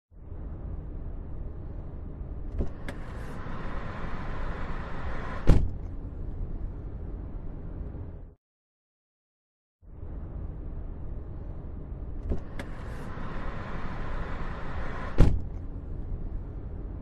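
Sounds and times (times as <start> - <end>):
car engine rumbling: 0.2 - 8.4, 9.9 - 17.0.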